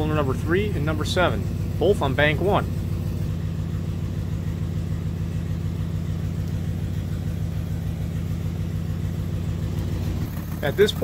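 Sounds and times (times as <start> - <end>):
engine idling rough: 0.0 - 11.0.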